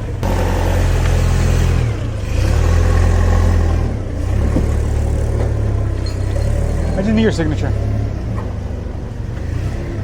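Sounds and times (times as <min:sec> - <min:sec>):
engine rumbling at low speed: 0:00.0 - 0:10.0.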